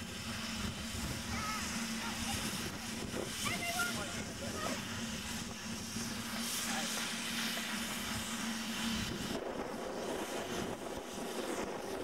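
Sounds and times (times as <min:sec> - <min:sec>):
steam locomotive rushing: 0:00.0 - 0:12.0.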